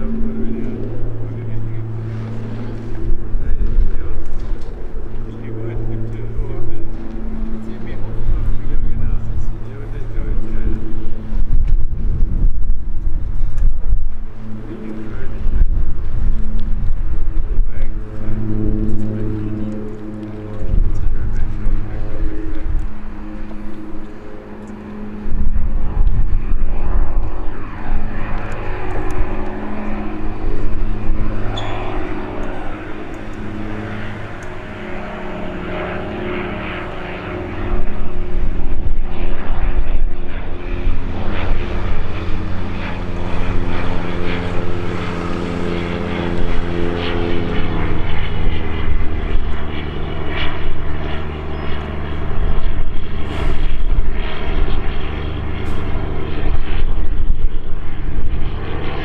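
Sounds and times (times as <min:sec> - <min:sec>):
light aircraft engine and propeller: 0:00.0 - 0:59.0.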